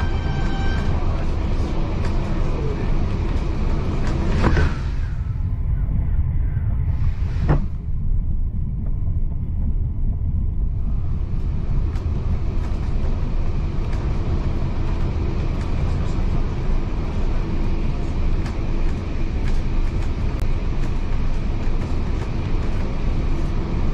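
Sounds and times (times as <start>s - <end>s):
railway carriage running on track: 0.0s - 5.4s, 8.8s - 23.9s.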